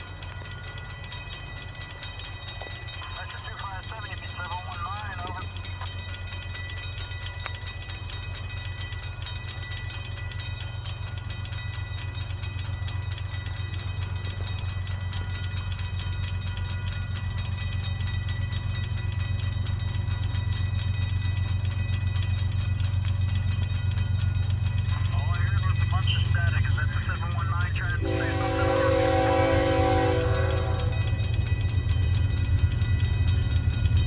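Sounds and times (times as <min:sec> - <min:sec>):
diesel locomotive engine drone: 0:00.0 - 0:34.0.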